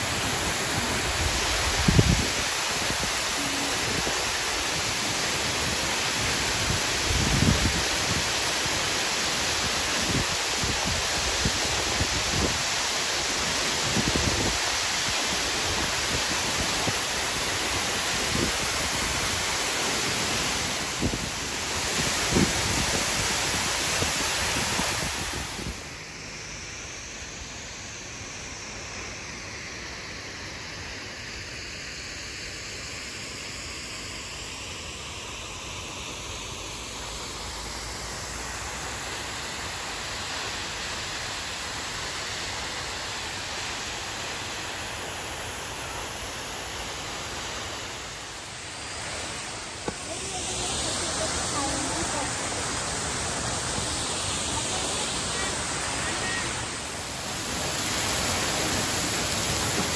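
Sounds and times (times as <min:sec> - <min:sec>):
waterfall rushing: 0:00.0 - 0:26.2, 0:35.0 - 0:59.9.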